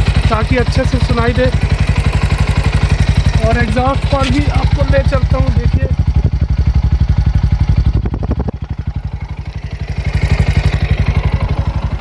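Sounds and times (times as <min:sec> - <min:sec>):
engine ticking: 0:00.0 - 0:12.0
motorcycle engine idling: 0:00.0 - 0:12.0.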